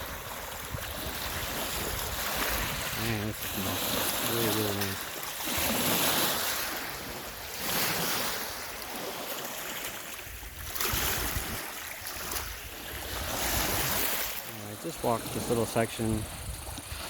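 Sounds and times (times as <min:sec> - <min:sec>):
waves washing onto shore: 0:00.0 - 0:17.0
wind: 0:00.0 - 0:17.0.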